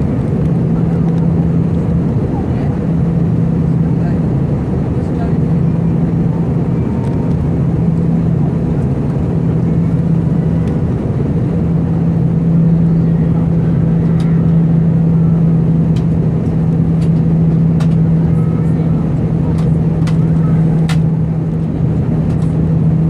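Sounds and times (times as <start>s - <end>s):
airplane cabin drone: 0.0s - 23.0s.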